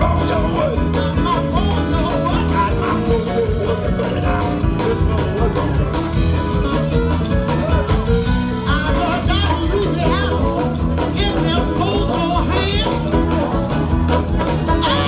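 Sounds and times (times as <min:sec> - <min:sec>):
blues band playing: 0:00.0 - 0:15.0
keyboard: 0:00.0 - 0:15.0
person singing: 0:00.0 - 0:15.0.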